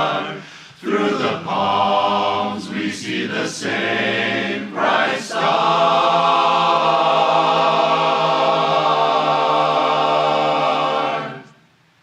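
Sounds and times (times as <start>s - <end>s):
barbershop chorus singing a cappella: 0.0s - 11.6s.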